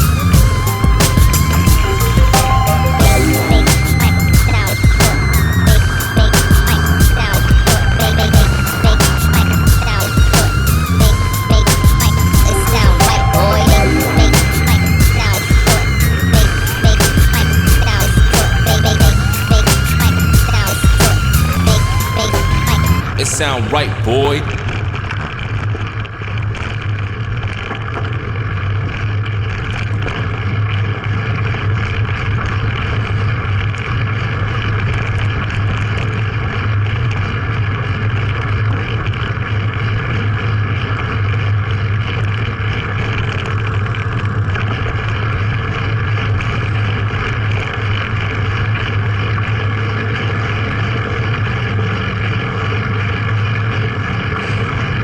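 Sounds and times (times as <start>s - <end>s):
steady engine drone: 0.0s - 25.5s, 34.8s - 55.0s.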